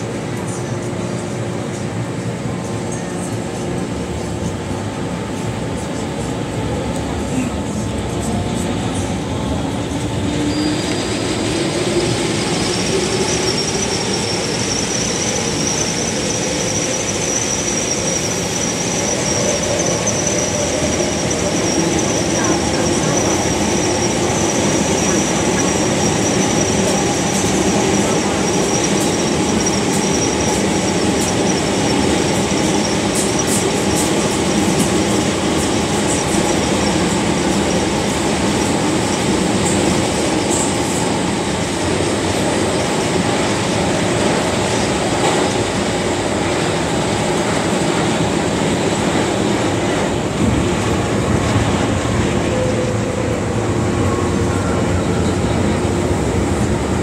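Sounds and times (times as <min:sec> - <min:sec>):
train wheels on rail: 0:00.0 - 0:57.0.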